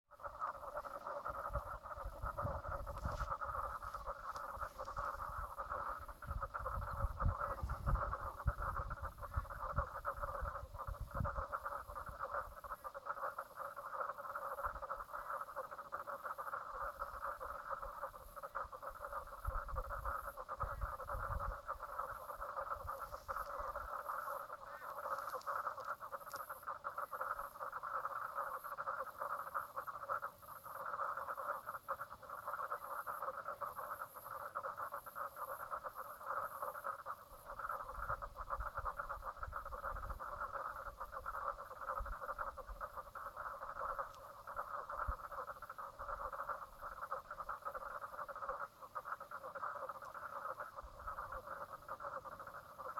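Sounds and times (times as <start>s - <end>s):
faint high pulsing calls: 0.1s - 52.9s
frogs calling: 0.1s - 52.9s.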